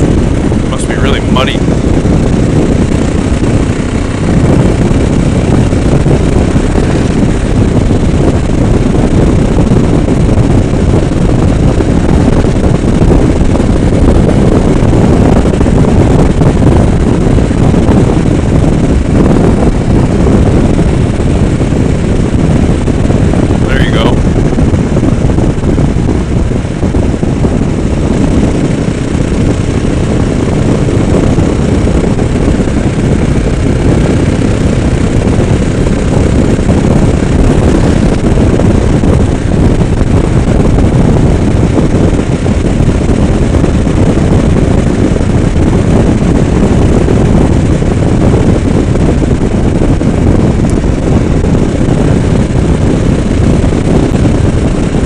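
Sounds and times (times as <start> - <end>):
motorcycle engine running: 0.0 - 55.0
wind rush and road noise: 0.0 - 55.0.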